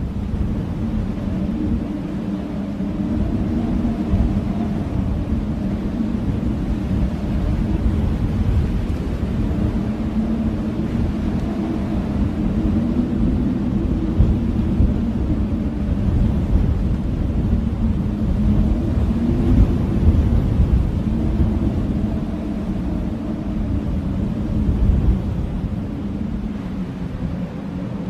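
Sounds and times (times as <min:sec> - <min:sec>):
blizzard wind howling: 0:00.0 - 0:28.0.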